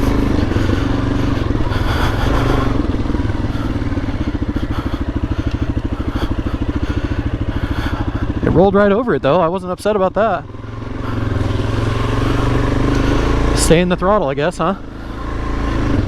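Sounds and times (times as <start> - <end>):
motorcycle engine under throttle: 0.0 - 16.0.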